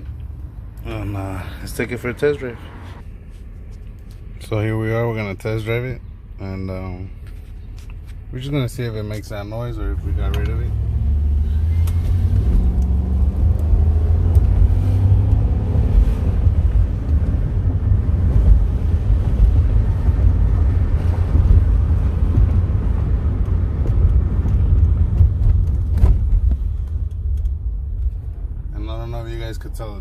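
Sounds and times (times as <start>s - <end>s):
car engine rumble: 0.0s - 30.0s
road noise: 0.0s - 30.0s.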